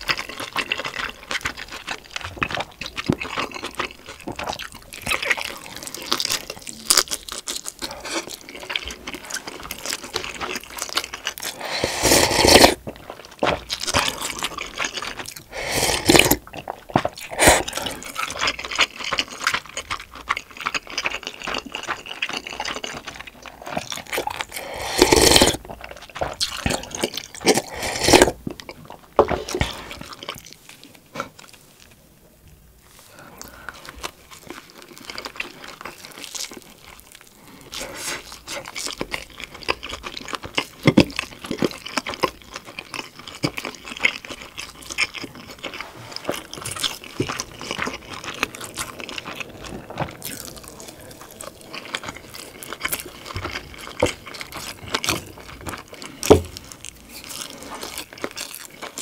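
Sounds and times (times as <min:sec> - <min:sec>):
person chewing with wet smacks: 0:00.0 - 0:32.0, 0:33.4 - 0:59.0.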